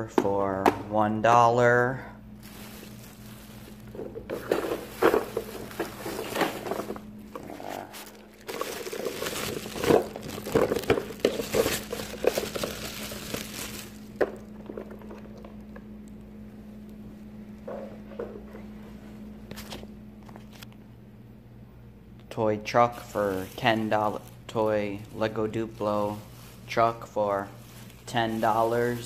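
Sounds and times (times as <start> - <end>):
steady low hum: 0.0 - 29.0
rustling and handling noise: 2.3 - 20.8, 22.7 - 29.0.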